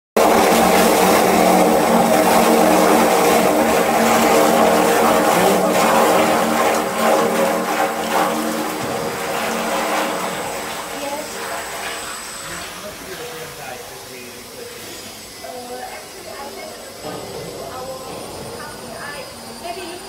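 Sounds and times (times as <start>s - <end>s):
liquid churning and splashing: 0.2s - 19.6s
mixing machine motor hum: 0.2s - 20.0s.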